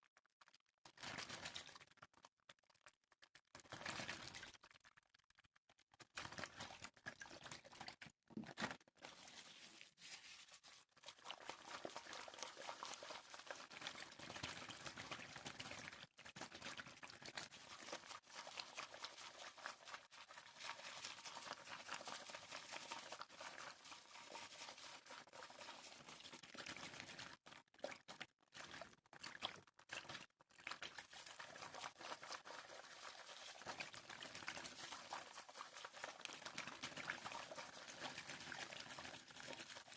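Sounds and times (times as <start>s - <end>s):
water pouring and trickling: 0.2s - 39.9s.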